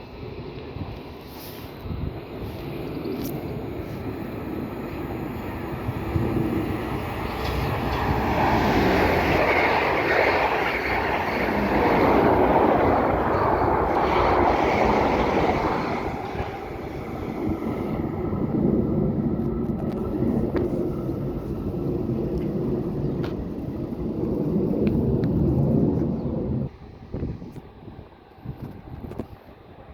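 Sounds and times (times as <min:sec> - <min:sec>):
train wheels and motors rumbling: 0:00.0 - 0:29.9.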